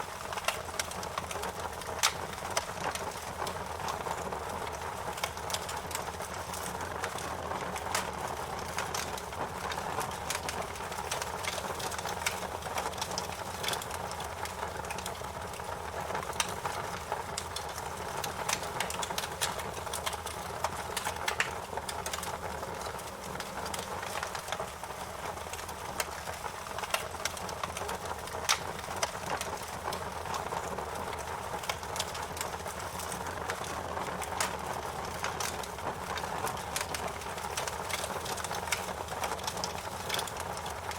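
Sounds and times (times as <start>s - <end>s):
fire popping and snapping: 0.0s - 40.9s
wood fire crackling: 0.0s - 40.9s.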